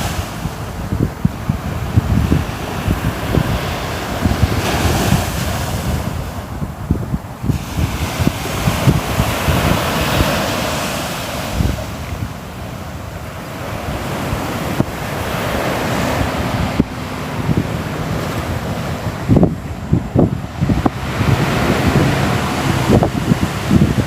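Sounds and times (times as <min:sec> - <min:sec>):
ocean waves breaking on shore: 0:00.0 - 0:24.0
wind buffeting microphone: 0:00.0 - 0:24.0.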